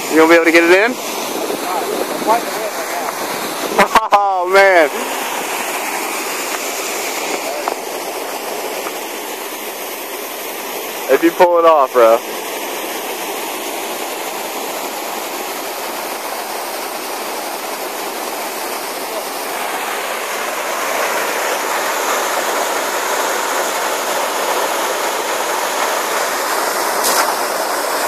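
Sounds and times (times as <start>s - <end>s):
waterfall pouring into a pond: 0.0s - 28.0s.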